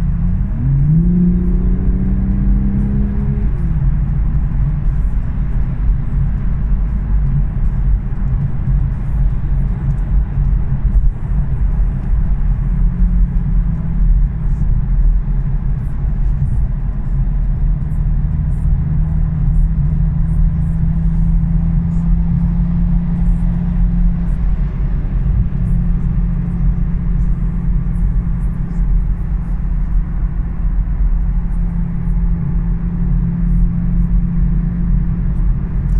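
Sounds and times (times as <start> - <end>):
car engine low drone: 0.0 - 35.9
road noise: 0.0 - 35.9.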